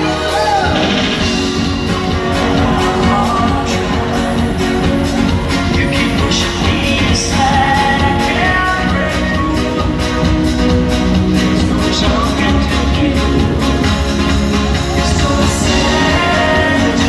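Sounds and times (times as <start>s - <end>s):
live dance-pop song over pa: 0.0s - 17.0s.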